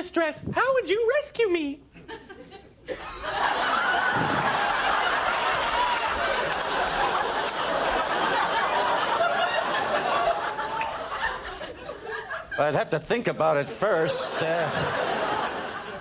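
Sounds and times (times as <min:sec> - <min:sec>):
studio audience laughing: 0:02.0 - 0:16.0.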